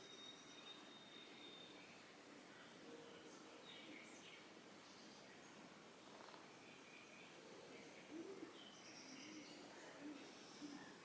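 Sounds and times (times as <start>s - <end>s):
bird chirps: 0.0s - 10.9s
low room hiss: 0.0s - 11.0s.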